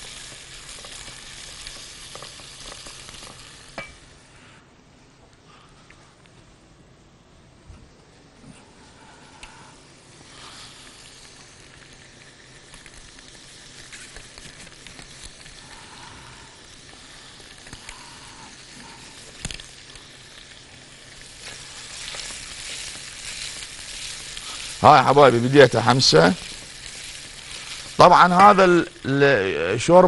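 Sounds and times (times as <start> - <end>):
onions sizzling in oil: 0.0 - 4.3, 8.8 - 30.0.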